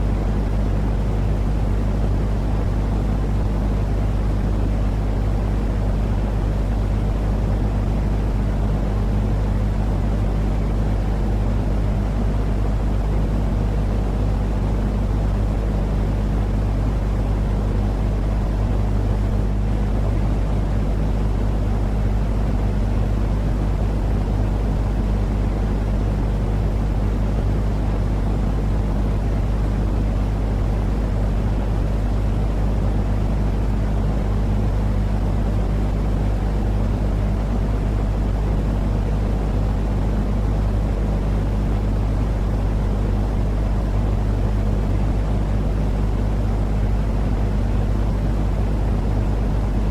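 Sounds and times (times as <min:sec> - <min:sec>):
constant low hum: 0:00.0 - 0:49.9
deep white noise rumble: 0:00.0 - 0:49.9.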